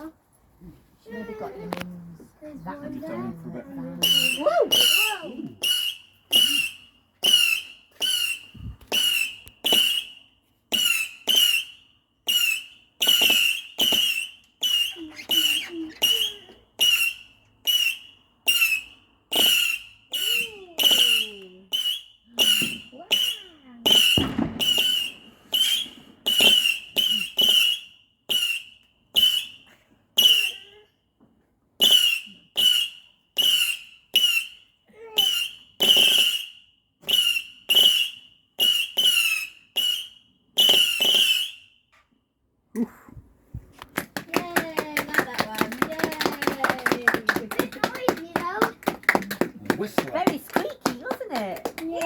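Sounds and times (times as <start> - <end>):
firework whistling shots: 4.0 - 30.7, 31.8 - 41.9, 44.0 - 51.8.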